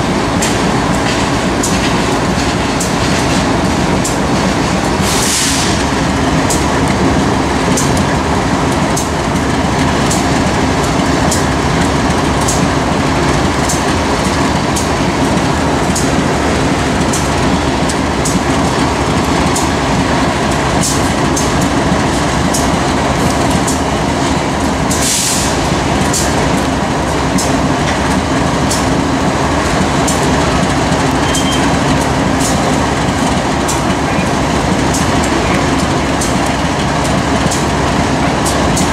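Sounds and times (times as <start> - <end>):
train rumble and hum: 0.0 - 38.9
train wheels clicking over rail joints: 0.0 - 38.9.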